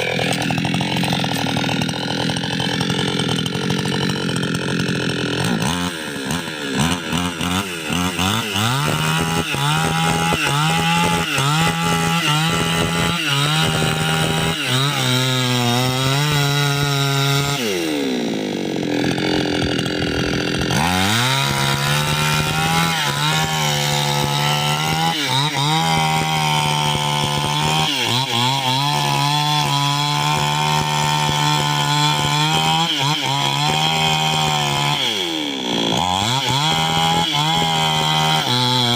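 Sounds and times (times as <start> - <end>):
chainsaw cutting into tree trunk: 0.0 - 38.9.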